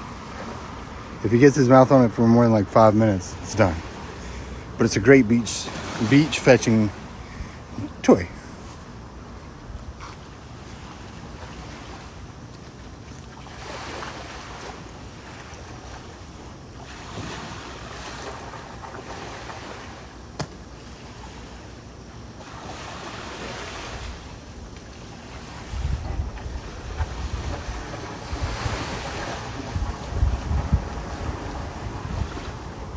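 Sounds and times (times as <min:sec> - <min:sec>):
ocean waves breaking on shore: 0:00.0 - 0:32.9.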